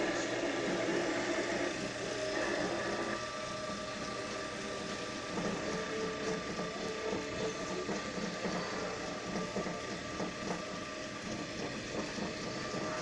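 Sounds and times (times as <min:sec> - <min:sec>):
drill press motor whine: 0:00.0 - 0:13.0
mechanical rumble: 0:00.0 - 0:13.0.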